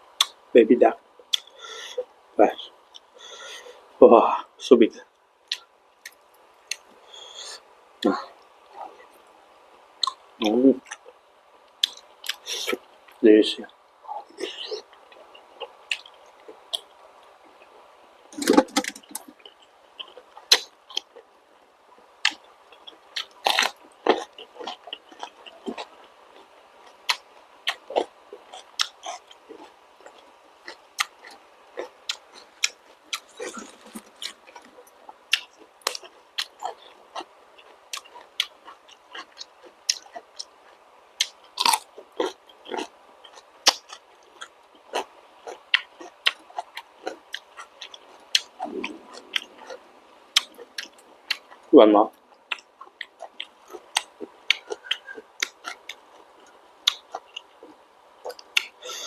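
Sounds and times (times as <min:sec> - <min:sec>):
wet chewing and crunching: 0:10.0 - 0:17.8, 0:18.4 - 0:21.3, 0:22.2 - 0:59.0.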